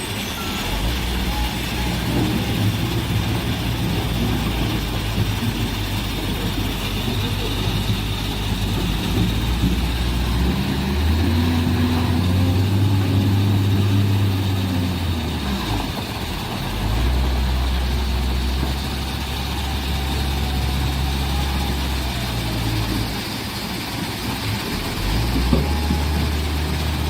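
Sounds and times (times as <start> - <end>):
large diesel engine running: 0.0 - 27.0.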